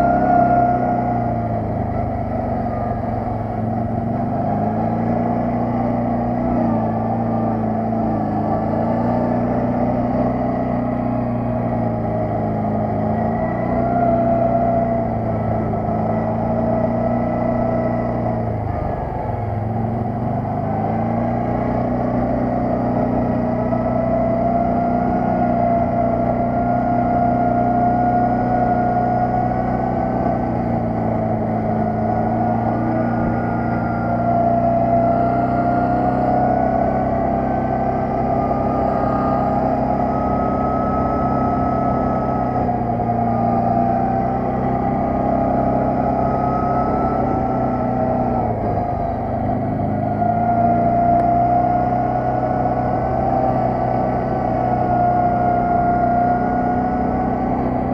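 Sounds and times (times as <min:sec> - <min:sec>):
quad bike engine running: 0:00.0 - 0:57.9.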